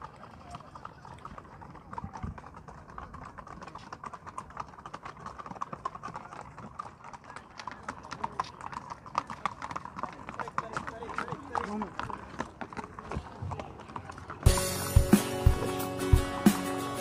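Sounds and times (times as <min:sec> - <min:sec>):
horse hooves on brick paving: 0:00.0 - 0:17.0.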